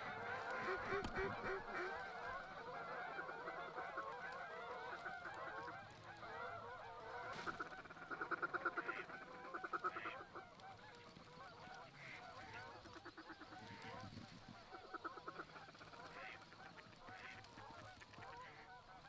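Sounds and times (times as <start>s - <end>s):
waterfowl flock honking: 0.0s - 19.0s.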